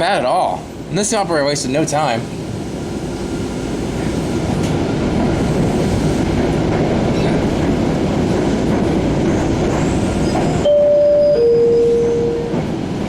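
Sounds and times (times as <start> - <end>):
subway car wheels and motors rumbling: 0.0 - 13.0.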